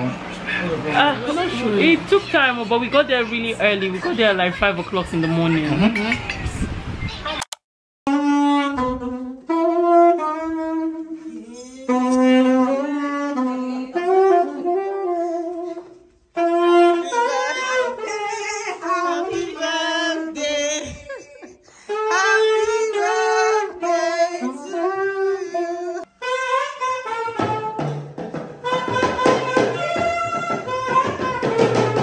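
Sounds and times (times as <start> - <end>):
saxophone melody: 0.9 - 4.5, 8.1 - 32.0.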